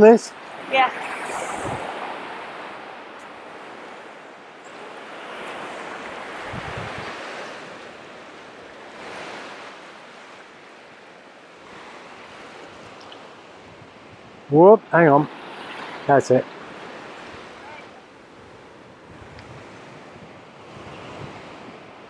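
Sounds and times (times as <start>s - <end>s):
surf breaking ashore: 0.0s - 22.0s
wind: 0.0s - 22.0s.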